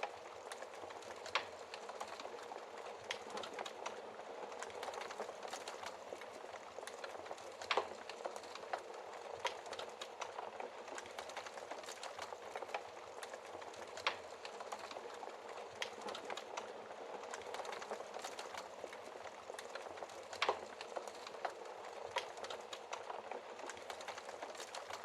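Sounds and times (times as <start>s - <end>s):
wood fire crackling: 0.0s - 25.0s
burning wood popping: 0.1s - 25.0s.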